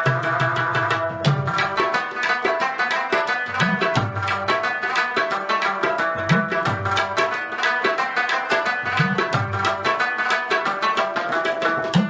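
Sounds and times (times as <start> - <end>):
fast drum rhythm: 0.0 - 12.0.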